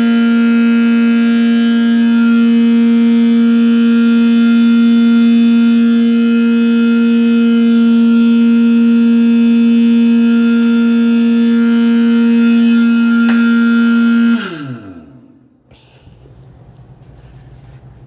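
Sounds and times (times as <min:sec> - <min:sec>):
pump motor humming: 0:00.0 - 0:16.4.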